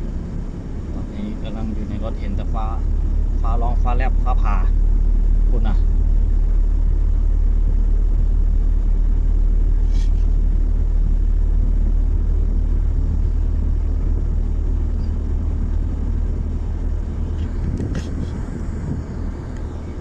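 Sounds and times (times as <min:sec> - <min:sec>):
car rumble from inside cabin: 0:00.0 - 0:20.0.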